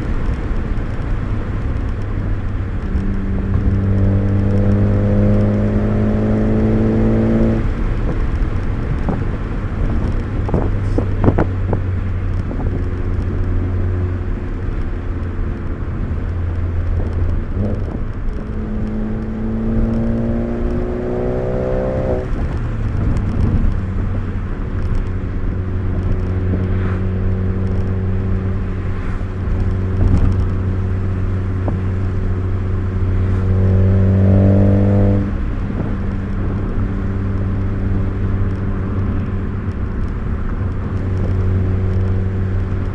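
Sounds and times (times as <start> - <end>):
car engine from inside cabin: 0.0 - 42.9.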